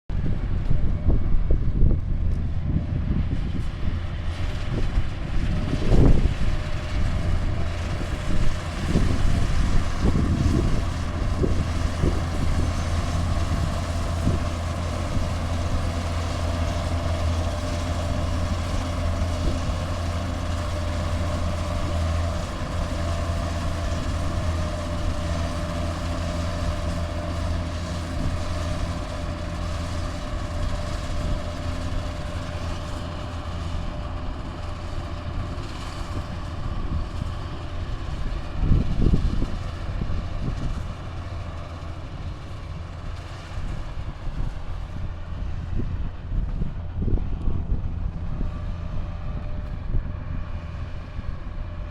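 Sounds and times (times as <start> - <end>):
farm machine engine running: 0.1 - 51.9.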